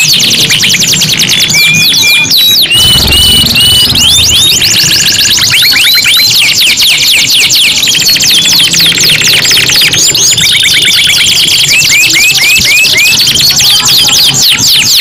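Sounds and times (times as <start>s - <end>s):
canaries singing trills: 0.0s - 15.0s.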